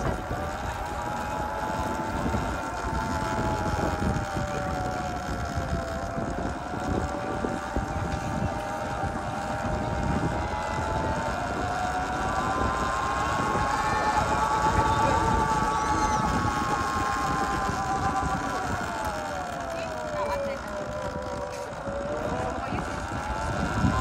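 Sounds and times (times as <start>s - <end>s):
electric motorbike motor whining: 0.0s - 24.0s
wind rumble on microphone: 0.0s - 24.0s.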